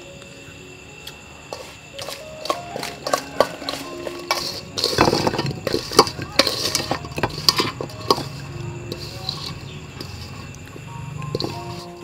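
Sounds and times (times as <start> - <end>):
metal spoon scraping a steel bowl: 1.5 - 10.5, 11.3 - 12.0.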